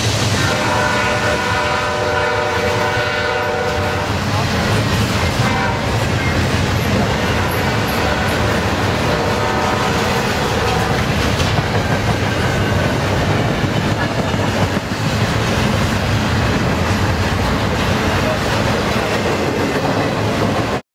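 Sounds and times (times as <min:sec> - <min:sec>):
model train rolling over track: 0:03.7 - 0:20.8.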